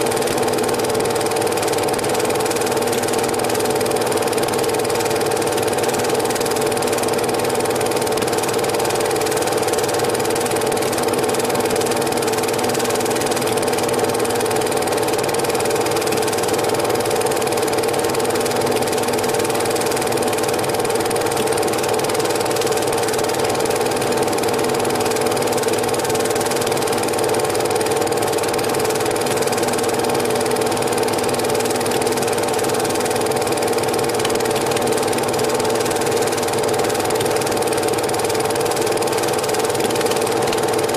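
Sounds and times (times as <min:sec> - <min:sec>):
film projector motor whirring: 0:00.0 - 0:40.9.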